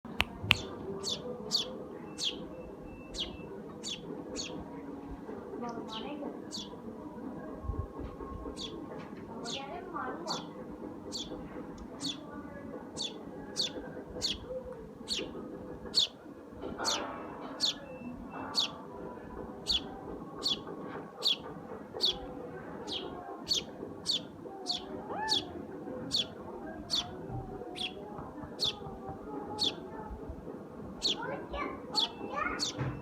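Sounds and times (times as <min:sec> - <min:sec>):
low background murmur: 0:00.0 - 0:33.0
sparrow chirping: 0:00.5 - 0:04.8, 0:05.7 - 0:06.8, 0:08.4 - 0:16.2, 0:16.8 - 0:29.9, 0:30.9 - 0:33.0.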